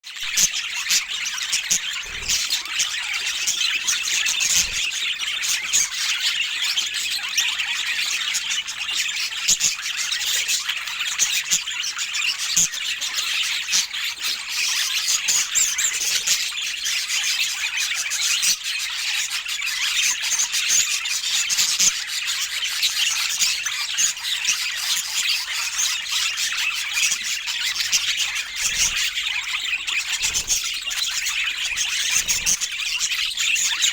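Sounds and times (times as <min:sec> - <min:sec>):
budgies chattering and chirping: 0:00.0 - 0:33.9.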